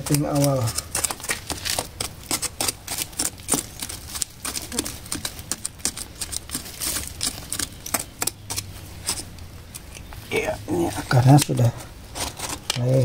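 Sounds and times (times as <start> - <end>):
pruning shears snipping: 0.0 - 10.1, 11.2 - 11.6
leaves rustling: 0.0 - 13.0.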